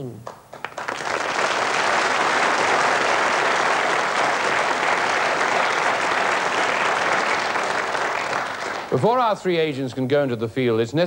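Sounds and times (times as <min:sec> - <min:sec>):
audience applauding: 0:00.3 - 0:09.4.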